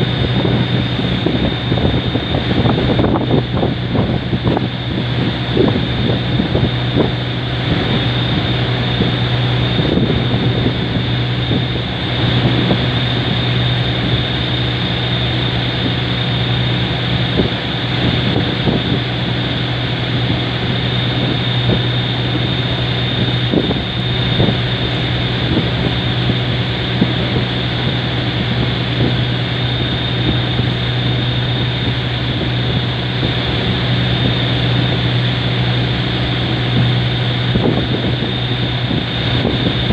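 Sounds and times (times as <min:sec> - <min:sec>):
boat engine droning: 0:00.0 - 0:39.9
wind buffeting microphone: 0:00.0 - 0:39.9.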